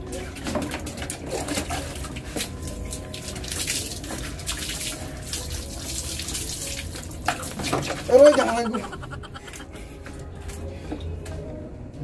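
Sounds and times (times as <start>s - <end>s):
water splashing and sloshing: 0.0s - 11.2s.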